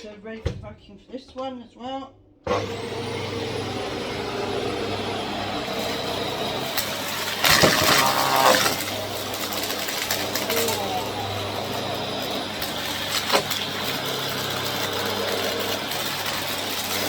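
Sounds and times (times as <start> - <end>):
vacuum cleaner motor whine: 2.5 - 17.0.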